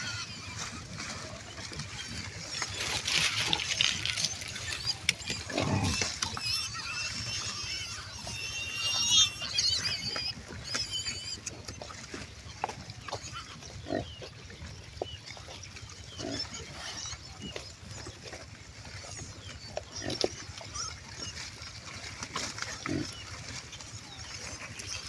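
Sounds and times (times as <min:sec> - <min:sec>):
pigs grunting: 0:00.0 - 0:25.0
pigs squealing: 0:00.0 - 0:25.0.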